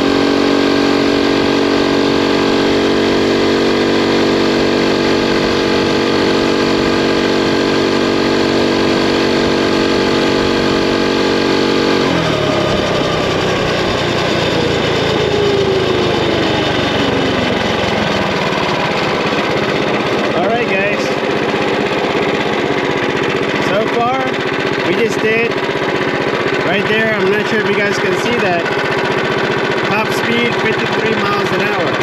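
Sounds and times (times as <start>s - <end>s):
mini bike engine revving: 0.0s - 32.0s.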